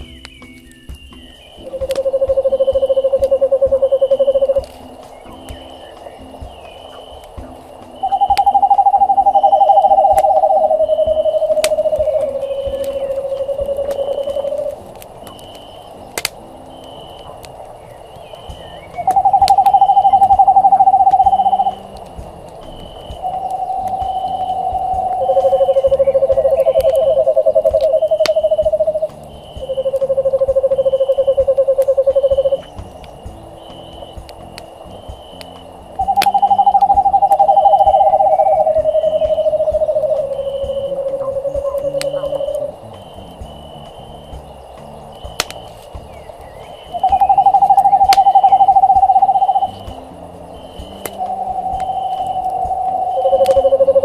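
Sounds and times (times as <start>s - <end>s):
owl trilling: 0.0s - 44.2s, 45.0s - 54.0s
campfire crack: 0.0s - 54.0s
fire popping: 0.0s - 54.0s.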